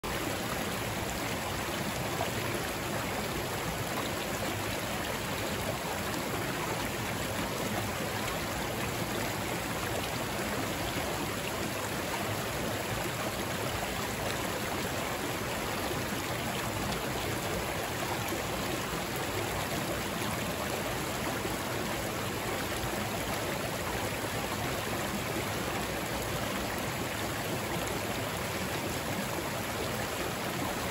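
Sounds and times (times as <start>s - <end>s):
creek running over rocks: 0.0s - 30.9s.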